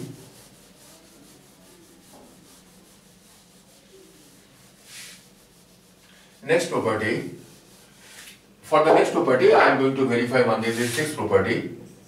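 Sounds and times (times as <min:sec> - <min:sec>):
duster rubbing on whiteboard: 0:00.0 - 0:09.2, 0:09.8 - 0:11.4.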